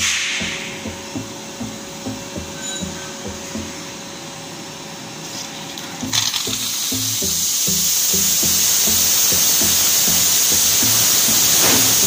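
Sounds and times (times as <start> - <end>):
compressed air hissing: 0.0 - 3.9, 5.2 - 12.0
background music with beat: 0.0 - 5.0, 5.8 - 12.0.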